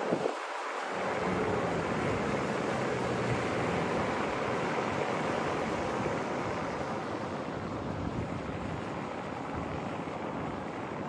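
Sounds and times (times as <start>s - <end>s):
motor boat engine: 0.0s - 11.0s
water wake rushing: 0.0s - 11.0s.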